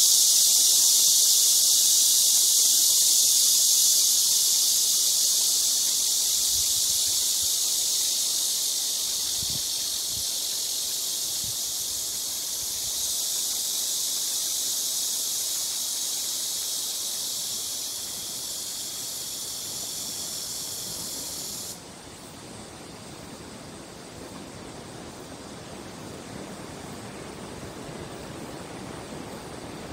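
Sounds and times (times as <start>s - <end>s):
cicadas buzzing: 0.0s - 29.9s.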